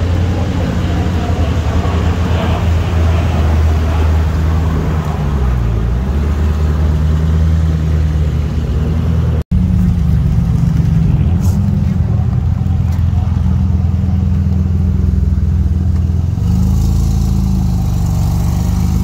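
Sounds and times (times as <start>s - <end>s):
car engine at low revs: 0.0s - 19.0s.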